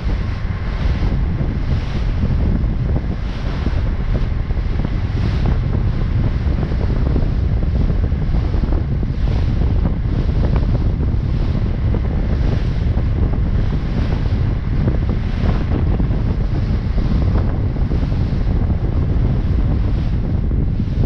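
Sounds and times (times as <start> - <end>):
water rushing along boat hull: 0.0 - 21.0
wind buffeting microphone: 0.0 - 21.0.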